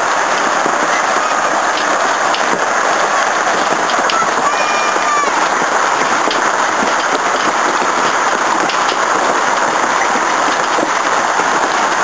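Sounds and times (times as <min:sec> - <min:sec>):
hail striking a wooden deck: 0:00.0 - 0:12.0.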